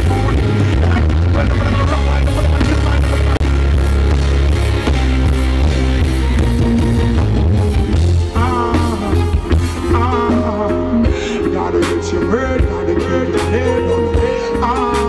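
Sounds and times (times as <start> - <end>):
heavy bass line: 0.0 - 15.0
live band music over a pa: 0.0 - 15.0.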